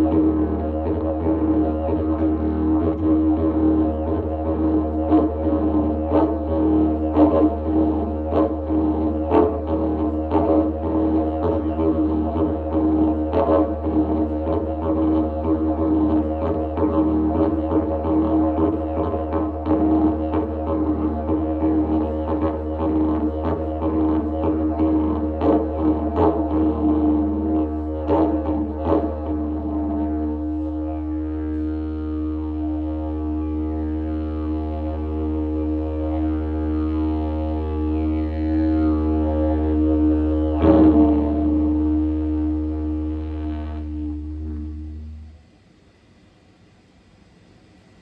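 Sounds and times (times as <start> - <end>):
didgeridoo drone with pulses: 0.0 - 45.5.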